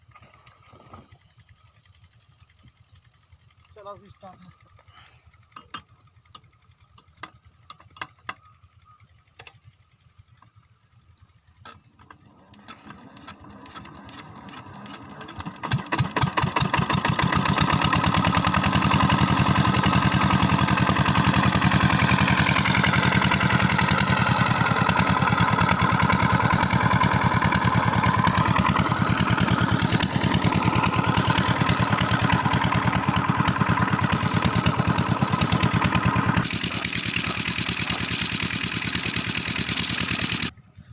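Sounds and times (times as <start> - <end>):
diesel engine cranking and running: 0.0 - 40.9
engine clicks: 0.1 - 40.5.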